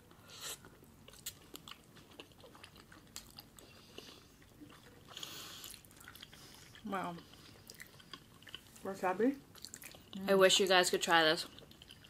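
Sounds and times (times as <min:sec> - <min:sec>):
people chewing with wet mouth clicks: 0:00.0 - 0:08.8, 0:09.5 - 0:10.3, 0:10.9 - 0:12.0.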